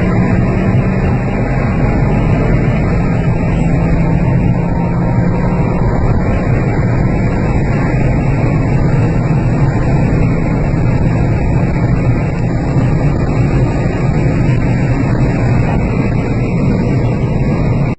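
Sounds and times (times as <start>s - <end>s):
car engine droning: 0.0s - 17.9s
road noise: 0.0s - 17.9s.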